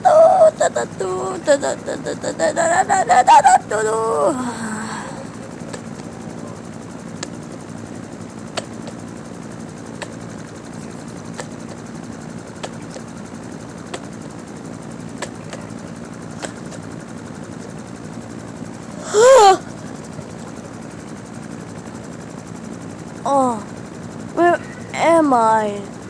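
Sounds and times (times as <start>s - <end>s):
machine humming: 0.0s - 26.0s.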